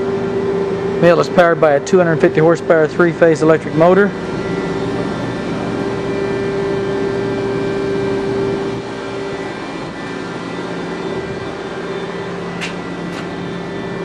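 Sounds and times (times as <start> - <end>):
industrial machinery drone: 0.0 - 14.0
machinery whining tones: 0.0 - 14.0.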